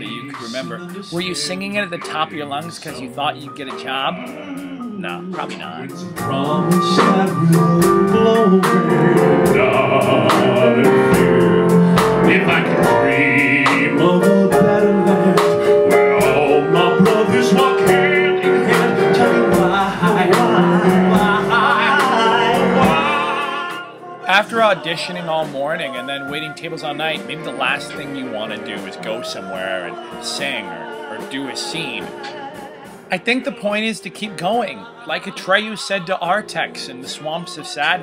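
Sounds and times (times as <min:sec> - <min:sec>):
instrumental accompaniment with beat: 0:00.0 - 0:38.0
two men singing a duet: 0:00.0 - 0:38.0.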